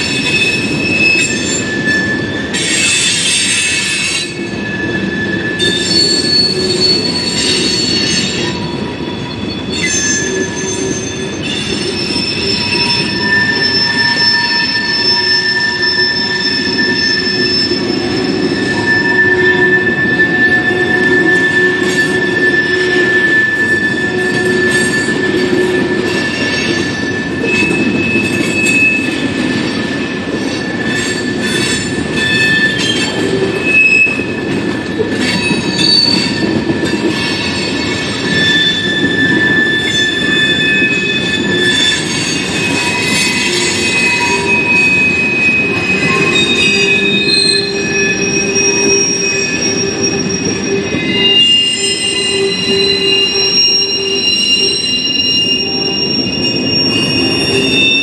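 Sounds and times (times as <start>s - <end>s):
train wheels rumbling on rail: 0.0s - 58.0s
wheels squealing: 0.0s - 58.0s.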